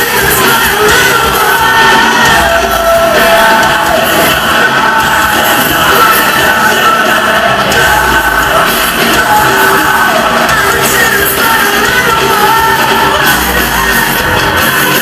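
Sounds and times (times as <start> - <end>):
lead vocal singing and yelling: 0.0 - 15.0
live rock band playing: 0.0 - 15.0.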